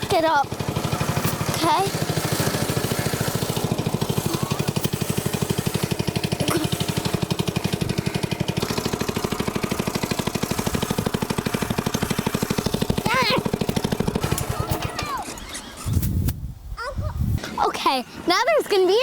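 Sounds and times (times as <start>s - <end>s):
go-kart engine running: 0.0s - 16.0s.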